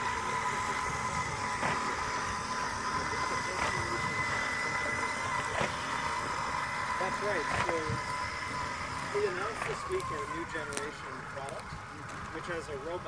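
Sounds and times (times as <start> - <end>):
cleaning robot whine: 0.0 - 13.0.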